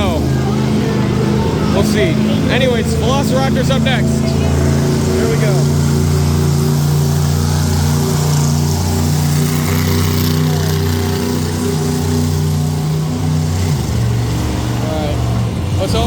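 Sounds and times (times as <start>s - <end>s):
truck engine running loudly: 0.0s - 16.0s.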